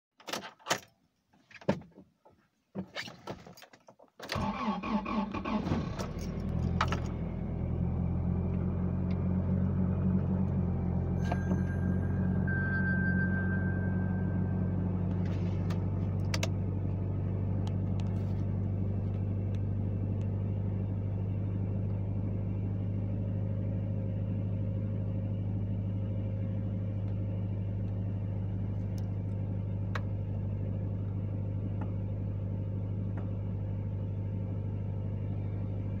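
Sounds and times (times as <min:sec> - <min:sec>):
engine idling: 0:06.2 - 0:36.0.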